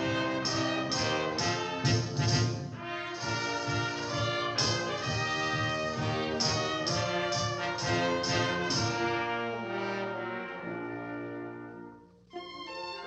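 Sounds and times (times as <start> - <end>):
orchestral cartoon music with brass: 0.0 - 13.0.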